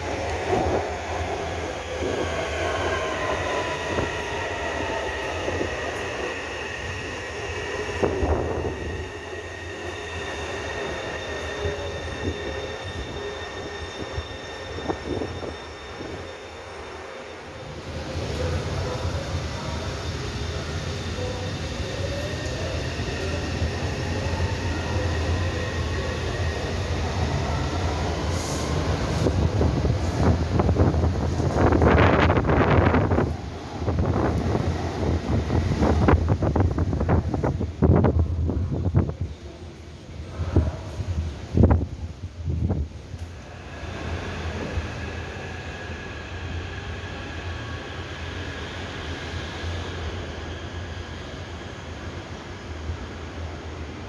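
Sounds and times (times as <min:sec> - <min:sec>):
faint train whine: 0:00.0 - 0:54.0
train rumbling on viaduct: 0:00.0 - 0:54.0.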